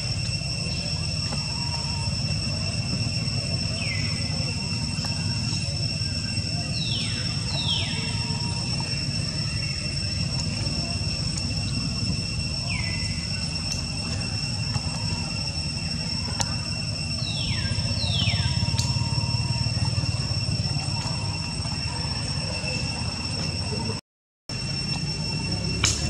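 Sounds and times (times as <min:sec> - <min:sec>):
falling whistle-like calls: 0:00.0 - 0:26.0.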